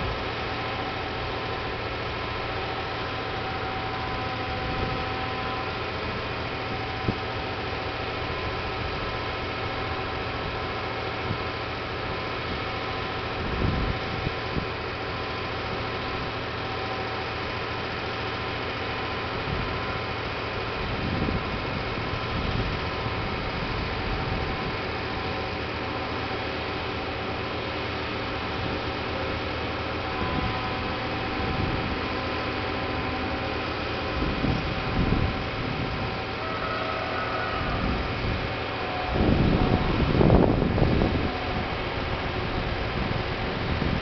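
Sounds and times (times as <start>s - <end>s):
truck engine humming: 0.0s - 44.0s.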